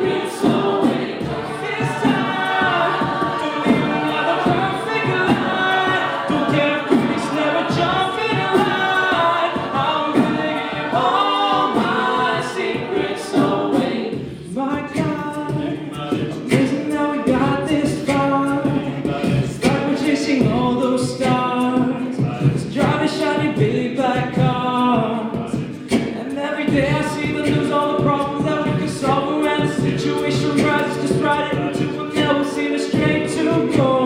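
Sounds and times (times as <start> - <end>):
a cappella group singing: 0.0 - 34.0.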